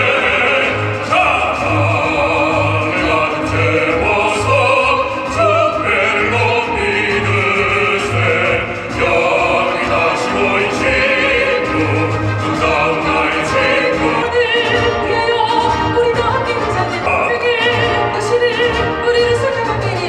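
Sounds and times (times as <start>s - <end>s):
instrumental accompaniment: 0.0s - 20.0s
operatic singing: 0.0s - 20.0s.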